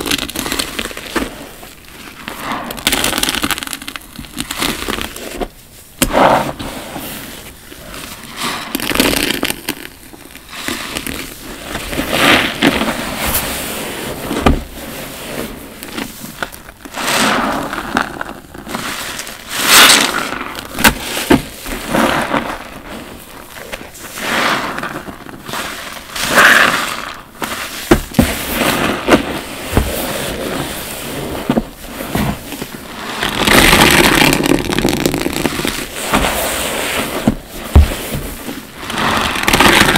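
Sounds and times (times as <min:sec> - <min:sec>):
foam crackling and popping: 0:00.0 - 0:39.9
wet sponge squelching: 0:06.0 - 0:39.9.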